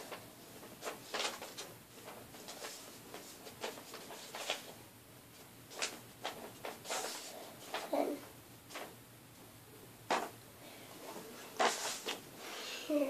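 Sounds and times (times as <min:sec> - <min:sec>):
paper rustling and crinkling: 0:00.0 - 0:09.0, 0:11.0 - 0:12.6.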